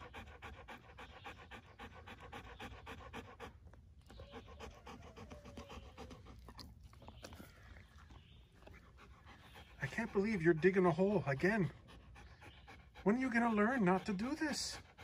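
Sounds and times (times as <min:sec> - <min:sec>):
dog panting rapidly: 0:00.0 - 0:06.8, 0:08.7 - 0:15.0.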